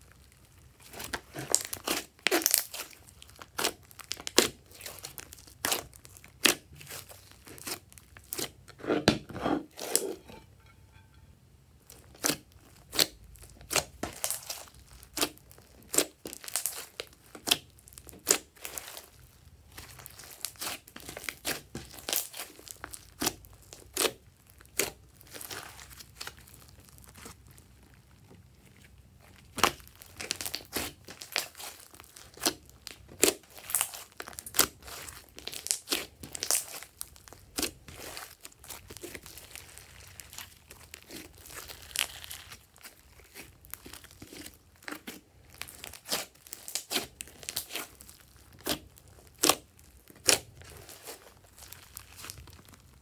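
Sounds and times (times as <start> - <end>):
slime popping and crackling: 0.1 - 8.7, 11.9 - 53.0.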